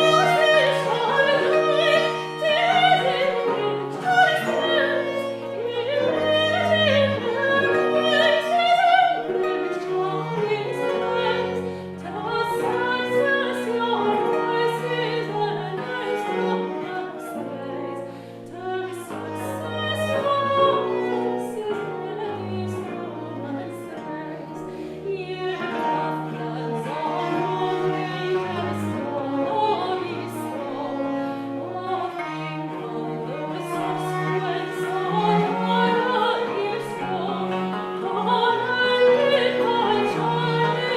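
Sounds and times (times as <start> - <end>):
baroque ensemble playing: 0.0 - 40.9
woman singing: 0.0 - 40.9.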